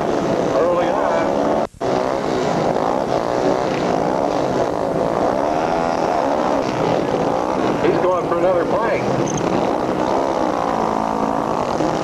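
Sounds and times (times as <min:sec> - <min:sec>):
motorcycle engines idling and revving: 0:00.0 - 0:12.0.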